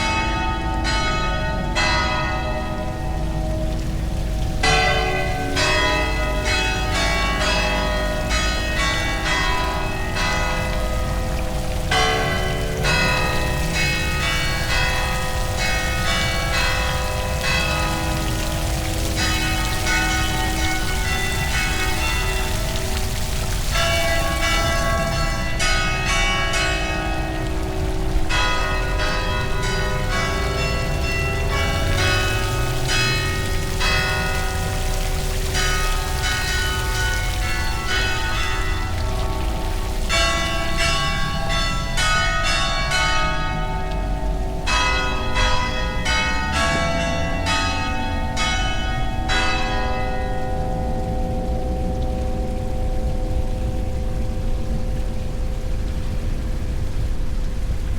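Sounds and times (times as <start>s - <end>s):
church bells ringing: 0.0s - 52.7s.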